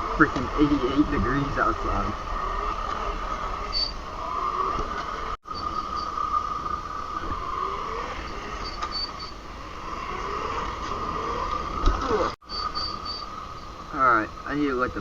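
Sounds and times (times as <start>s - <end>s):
electric dirt bike motor whine: 0.0s - 14.4s.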